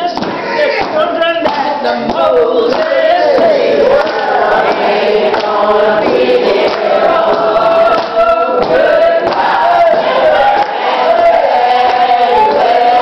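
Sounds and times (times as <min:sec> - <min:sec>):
congregation singing: 0:00.0 - 0:13.0
hands clapping: 0:00.0 - 0:13.0.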